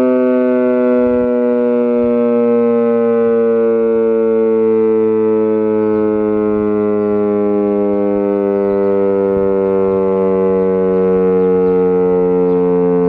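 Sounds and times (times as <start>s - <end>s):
warning siren steady tone: 0.0s - 13.0s.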